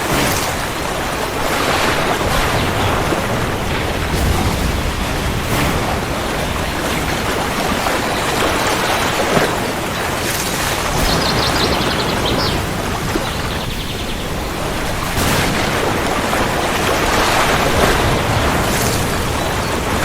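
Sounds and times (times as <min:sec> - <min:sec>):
heavy rain: 0:00.0 - 0:20.0
thunder rumbling: 0:00.0 - 0:20.0.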